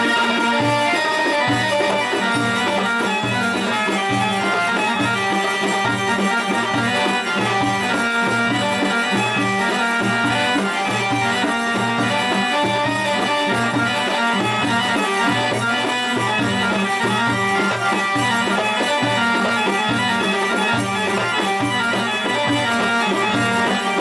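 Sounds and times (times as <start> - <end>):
steady drumbeat: 0.0 - 24.0.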